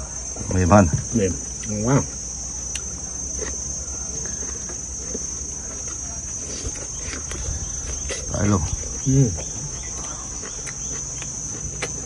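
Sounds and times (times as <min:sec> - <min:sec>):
insects chirring: 0:00.0 - 0:12.0
faint chewing: 0:01.5 - 0:12.0.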